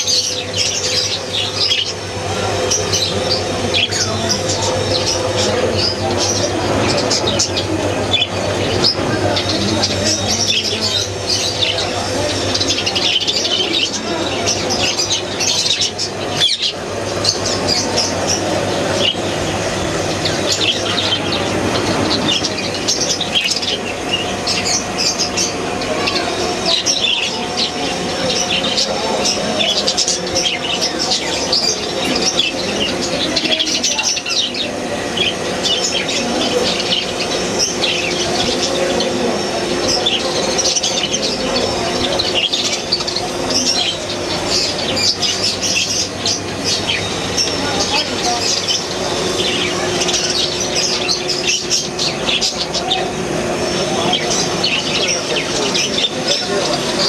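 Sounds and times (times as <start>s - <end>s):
caged birds chirping: 0.0s - 57.0s.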